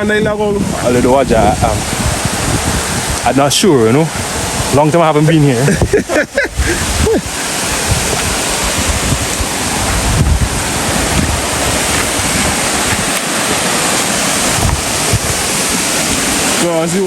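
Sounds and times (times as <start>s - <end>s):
waterfall roaring: 0.0s - 17.0s
wind gusting on microphone: 0.0s - 17.0s.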